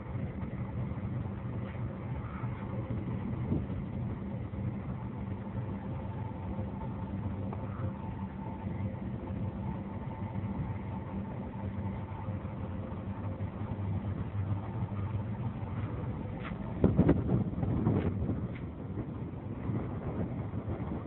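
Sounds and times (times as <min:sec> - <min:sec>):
boat engine humming: 0:00.0 - 0:21.0
loud low rumbles: 0:00.0 - 0:21.0.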